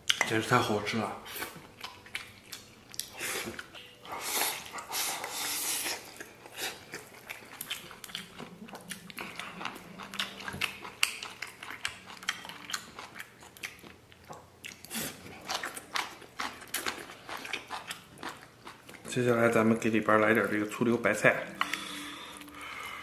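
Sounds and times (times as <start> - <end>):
wet chewing: 1.2 - 20.8.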